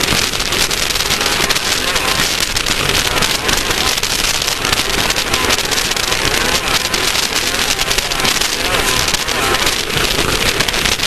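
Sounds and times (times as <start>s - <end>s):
rush of wind and road noise: 0.0s - 11.0s.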